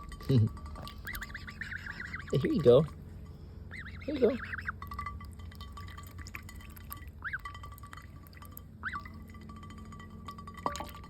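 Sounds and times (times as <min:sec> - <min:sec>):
gosling peeping: 0:00.0 - 0:09.3.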